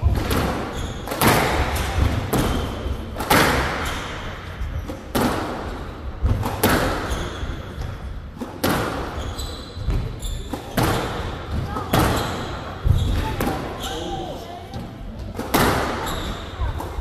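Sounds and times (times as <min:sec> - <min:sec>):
squash ball hits echoing: 0:00.0 - 0:17.0.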